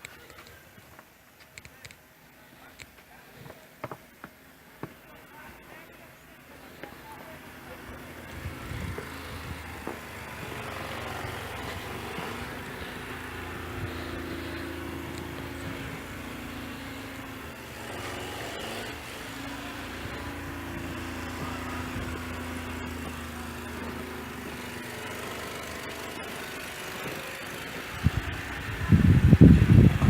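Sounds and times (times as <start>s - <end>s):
motor engine running: 3.3s - 30.0s.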